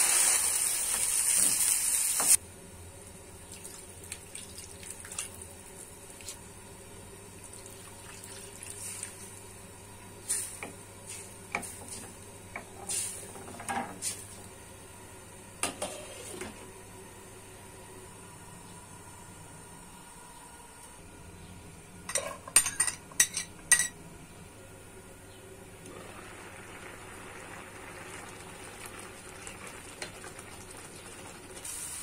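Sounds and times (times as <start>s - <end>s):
faint steady hum: 2.3s - 32.0s.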